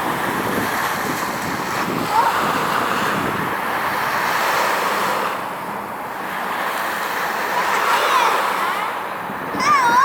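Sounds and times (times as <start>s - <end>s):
distant traffic: 0.0s - 10.0s
wind: 0.0s - 10.0s.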